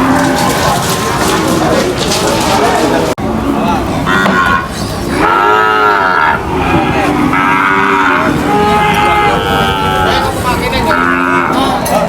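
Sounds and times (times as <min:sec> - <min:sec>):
cattle mooing: 0:00.0 - 0:11.9.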